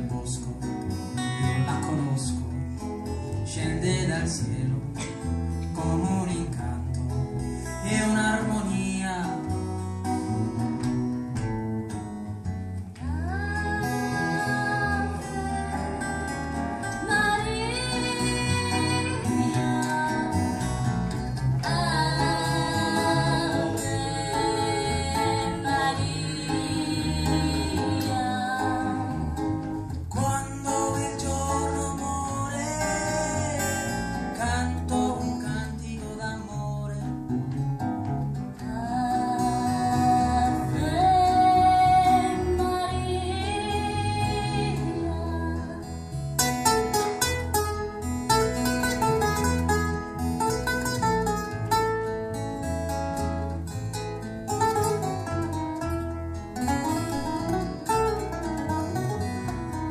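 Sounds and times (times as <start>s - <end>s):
acoustic guitar ensemble playing: 0.0s - 59.9s.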